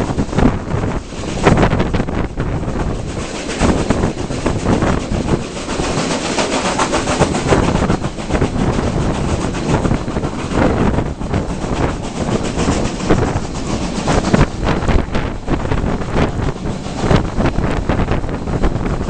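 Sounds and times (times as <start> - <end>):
train wheels clattering on rails: 0.0 - 19.0
wind noise on microphone: 0.0 - 19.0.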